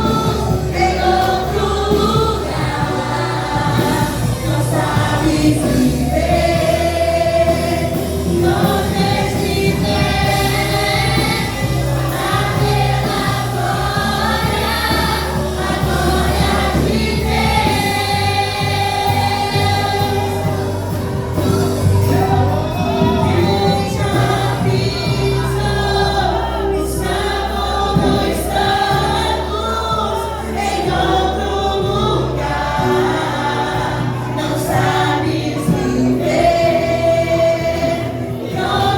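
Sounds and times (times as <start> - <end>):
band with bass and keyboard: 0.0 - 38.9
group singing: 0.0 - 38.9.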